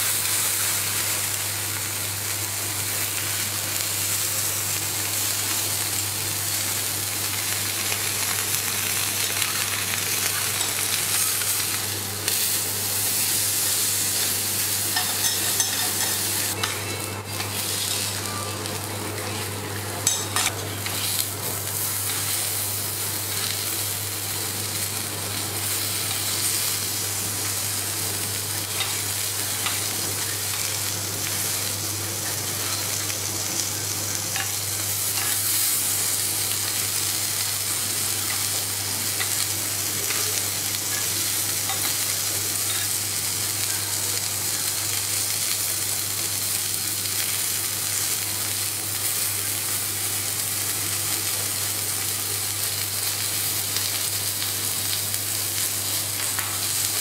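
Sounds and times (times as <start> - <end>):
beef sizzling on a griddle: 0.0 - 57.0.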